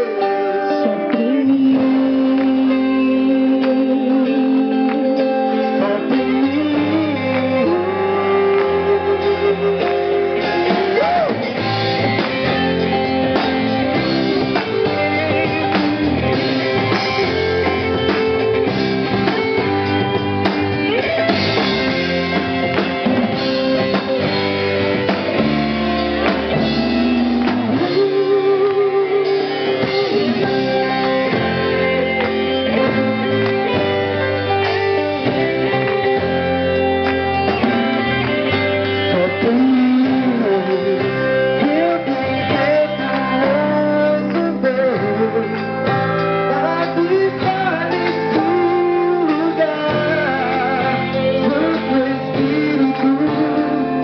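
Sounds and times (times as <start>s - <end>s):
guitars: 0.0s - 54.0s
live band playing: 0.0s - 54.0s.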